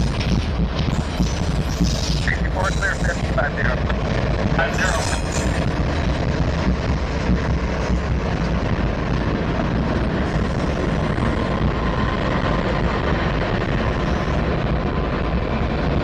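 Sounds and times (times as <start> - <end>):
locomotive engines rumbling: 0.0 - 16.0
steel wheels on rails: 0.0 - 16.0.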